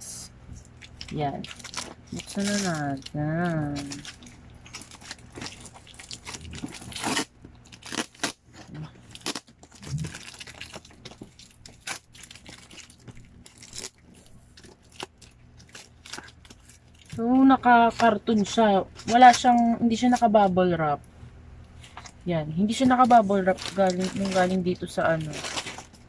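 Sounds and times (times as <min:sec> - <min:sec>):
plastic and cardboard crinkling: 0:00.6 - 0:20.4, 0:21.8 - 0:26.0.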